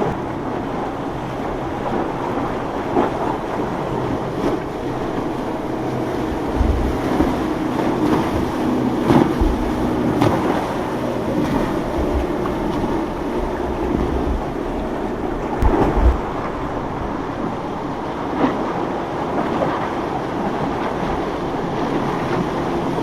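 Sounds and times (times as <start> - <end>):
boat engines droning: 0.0 - 23.0
surf: 0.0 - 23.0
wind buffeting microphone: 0.0 - 23.0.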